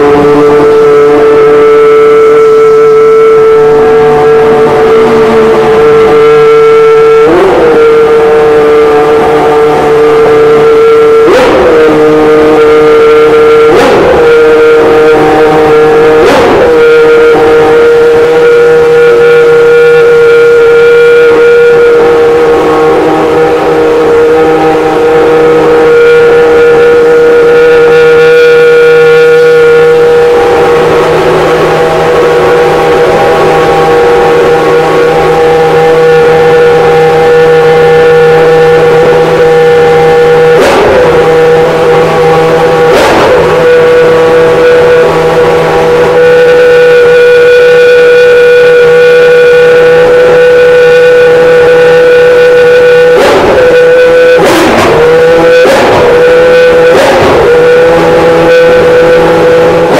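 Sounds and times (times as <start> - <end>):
race car engine idling: 0.0 - 59.9.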